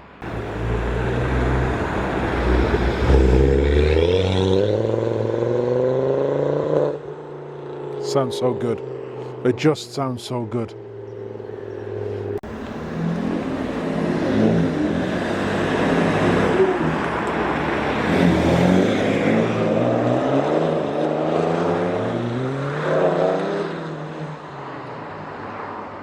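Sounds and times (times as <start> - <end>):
car engine revving: 0.2 - 9.2, 10.7 - 24.2.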